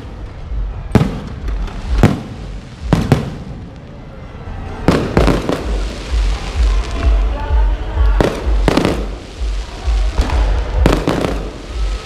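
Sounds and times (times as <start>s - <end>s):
fireworks bangs with rumble: 0.0s - 3.8s, 4.8s - 12.0s.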